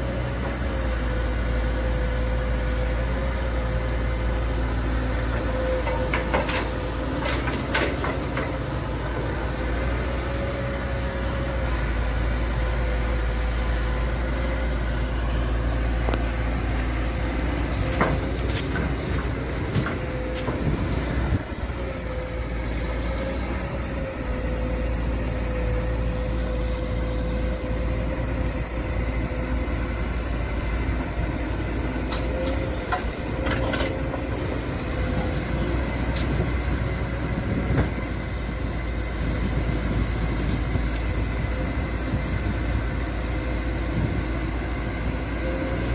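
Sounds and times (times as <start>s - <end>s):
excavator diesel engine running: 0.0s - 45.9s
hydraulic whine: 0.0s - 45.9s.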